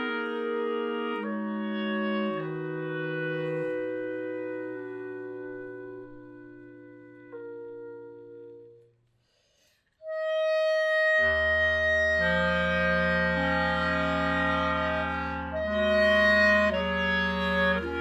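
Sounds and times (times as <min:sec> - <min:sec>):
clarinet quartet playing chords: 0:00.0 - 0:06.7, 0:10.2 - 0:18.0.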